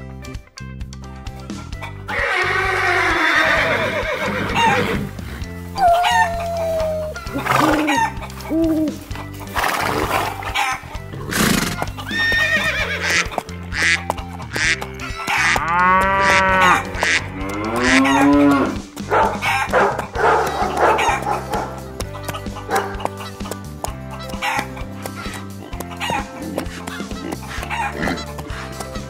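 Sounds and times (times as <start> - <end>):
background music: 0.0 - 29.0
farm animal calls: 1.7 - 29.0.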